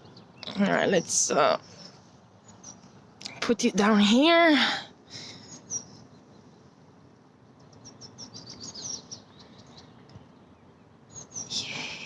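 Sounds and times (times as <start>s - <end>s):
small songbird chirping: 0.0s - 4.0s, 5.2s - 12.0s
faint outdoor background hiss: 0.0s - 12.0s.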